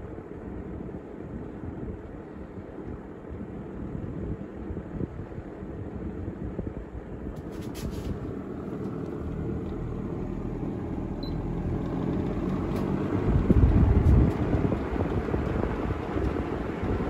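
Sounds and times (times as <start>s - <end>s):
faint motor hum: 0.0s - 17.0s
fan air rushing: 0.0s - 17.0s.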